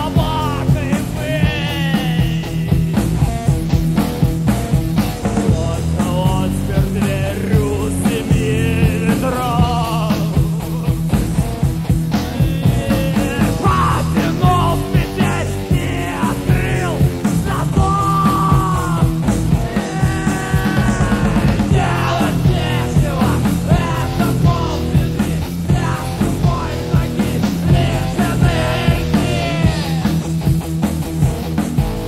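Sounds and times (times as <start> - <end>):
drums keeping a beat: 0.0 - 32.0
rock band playing: 0.0 - 32.0.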